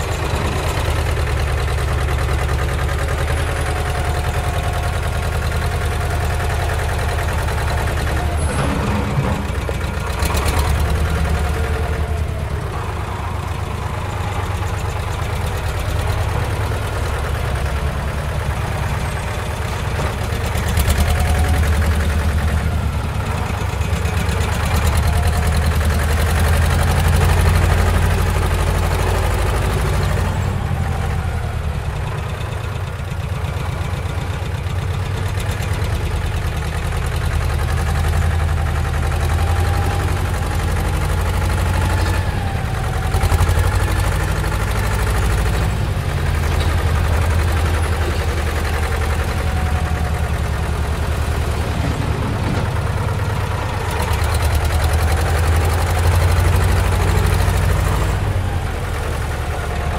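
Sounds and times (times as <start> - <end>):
heavy machinery engine rumbling: 0.0 - 59.9.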